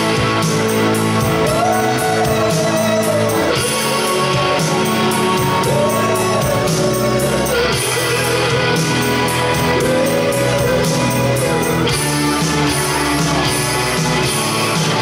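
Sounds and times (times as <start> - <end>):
bass line: 0.0 - 15.0
electric guitar lead notes: 0.0 - 15.0
steady drum beat: 0.0 - 15.0.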